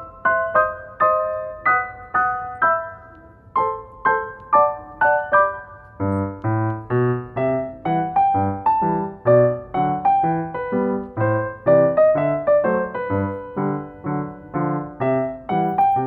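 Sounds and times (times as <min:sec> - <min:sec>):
low piano bass notes: 0:00.0 - 0:16.0
piano melody: 0:00.0 - 0:16.0.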